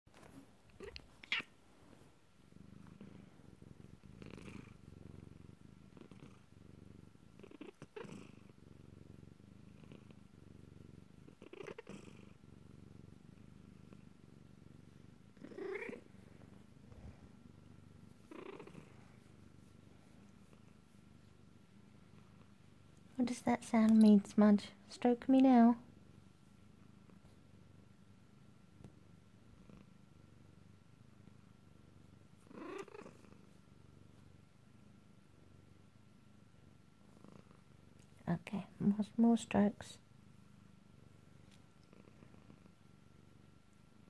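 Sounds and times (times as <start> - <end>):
cat purring: 0.1 - 44.0.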